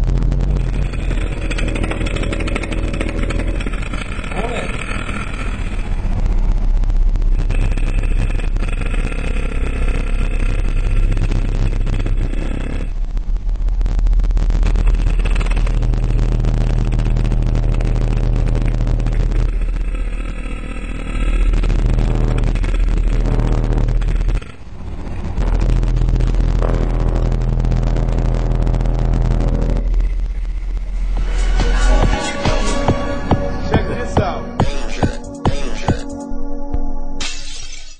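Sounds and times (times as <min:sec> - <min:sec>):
subwoofers playing deep bass note: 0:00.0 - 0:37.2
harsh buzz: 0:00.0 - 0:37.9.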